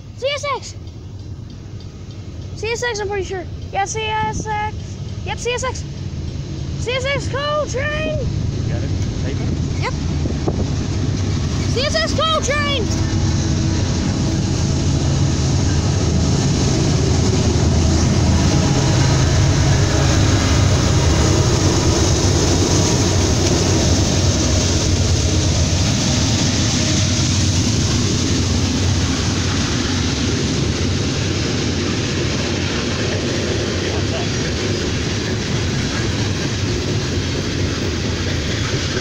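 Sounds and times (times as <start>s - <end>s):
diesel locomotive engine rumble: 0.0s - 39.0s
train wheels on rails: 0.0s - 39.0s.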